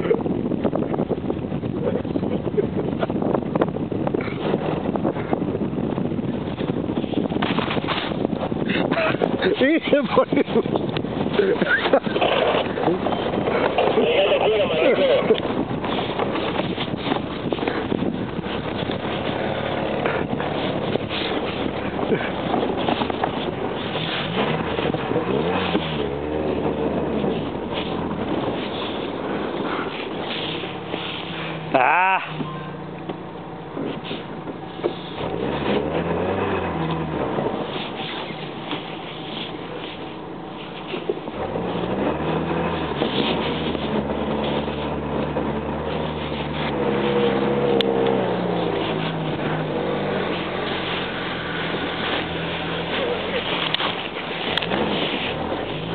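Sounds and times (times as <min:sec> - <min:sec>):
engine running and revving: 0:00.0 - 0:55.9.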